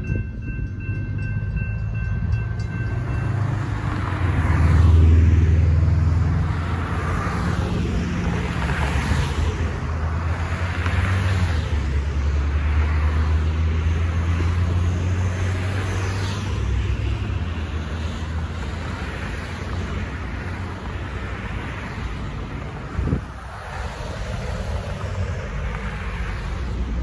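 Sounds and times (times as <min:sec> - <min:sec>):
traffic tyre noise passing: 0:00.0 - 0:27.0.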